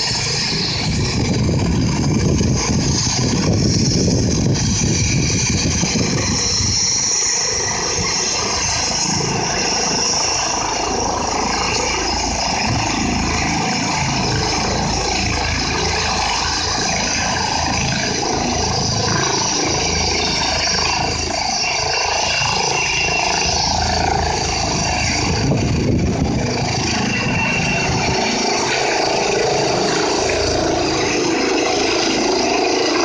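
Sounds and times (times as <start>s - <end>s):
helicopter rotor noise: 0.0s - 33.0s
turbine engine whine: 0.0s - 33.0s.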